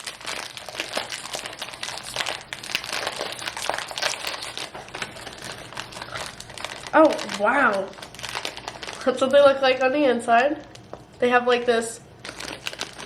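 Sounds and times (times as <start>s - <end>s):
snack pouch crinkling: 0.0s - 9.9s, 12.2s - 13.0s.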